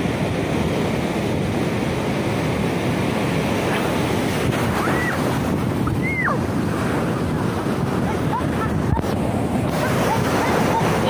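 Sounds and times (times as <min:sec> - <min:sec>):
sea surf: 0:00.0 - 0:11.0
wind on microphone: 0:00.0 - 0:11.0.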